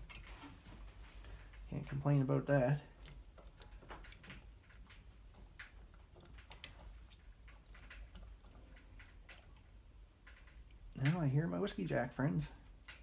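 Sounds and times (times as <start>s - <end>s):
low steady hum: 0.0s - 13.0s
wood fire crackling: 0.0s - 13.0s.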